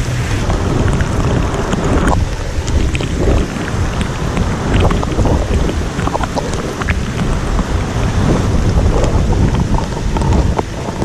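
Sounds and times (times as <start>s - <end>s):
raindrops ticking: 0.0s - 11.0s
wind buffeting microphone: 0.0s - 11.0s.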